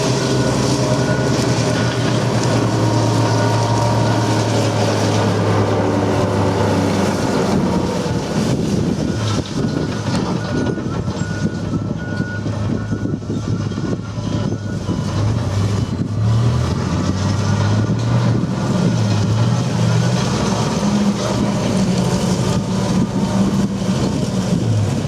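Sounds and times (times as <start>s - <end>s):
vehicle engine running under load: 0.0s - 25.0s.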